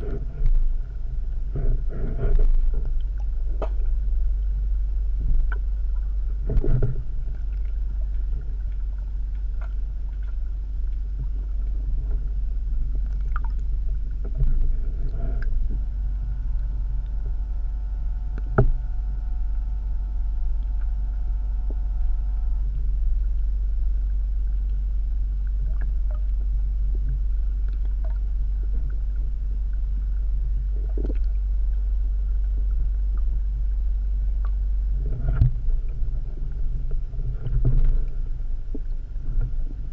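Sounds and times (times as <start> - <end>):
faint multi-tone hum: 0.0 - 39.9
muffled underwater rumble: 0.0 - 39.9.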